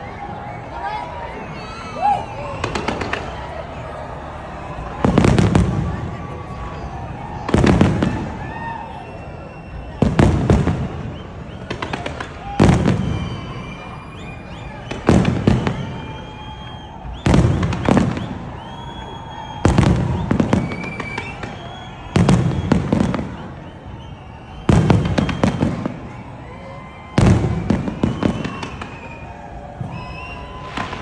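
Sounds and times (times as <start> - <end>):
cluster of sharp firework reports: 0.0 - 31.0.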